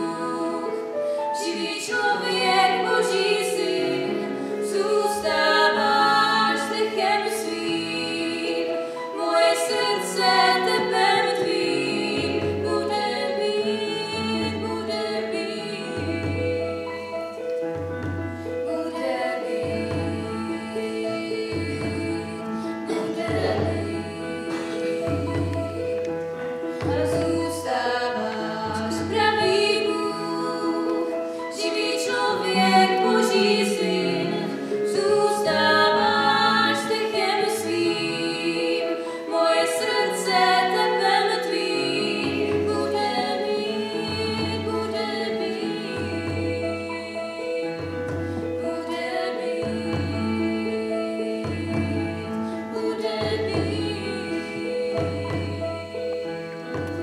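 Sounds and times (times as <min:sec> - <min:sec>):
female choir singing: 0:00.0 - 0:17.6, 0:18.6 - 0:26.0, 0:26.6 - 0:57.0.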